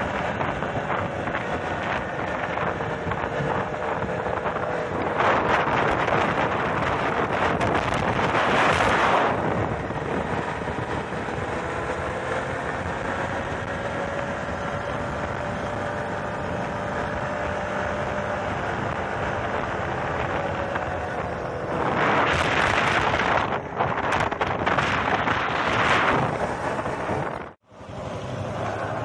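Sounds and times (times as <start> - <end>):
quad bike engine running: 0.0 - 29.0
wind buffeting microphone: 0.0 - 29.0.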